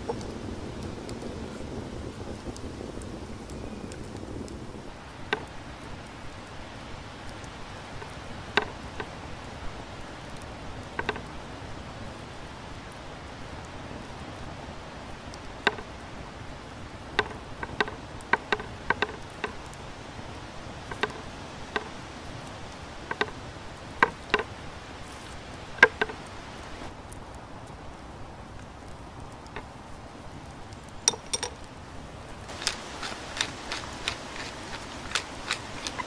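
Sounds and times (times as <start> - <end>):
fire crackling and popping: 0.0 - 36.0
wood fire hissing: 0.0 - 36.0.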